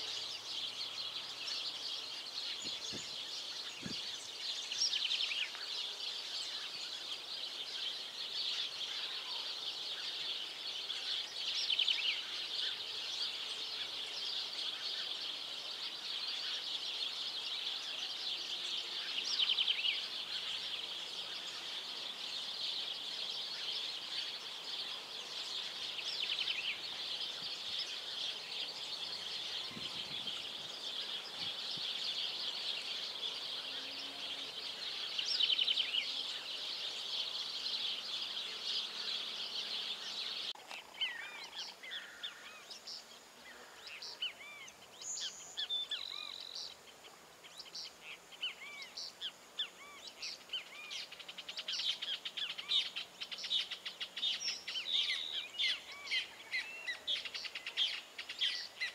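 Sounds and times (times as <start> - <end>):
wild birds chirping: 0.0 - 58.9.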